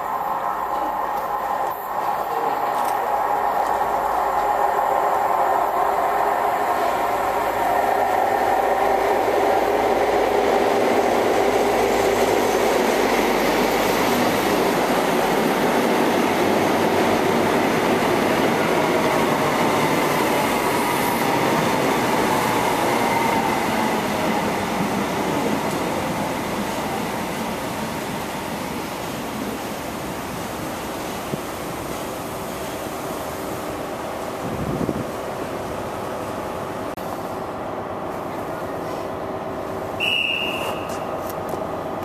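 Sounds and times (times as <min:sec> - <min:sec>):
train engine and wheels rumbling: 0:00.0 - 0:42.0.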